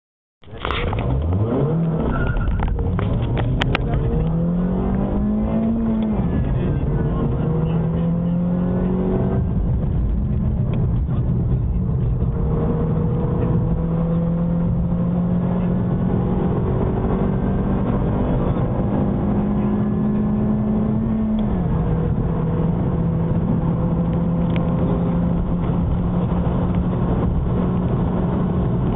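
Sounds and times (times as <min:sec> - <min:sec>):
car engine accelerating hard: 0:00.5 - 0:28.9.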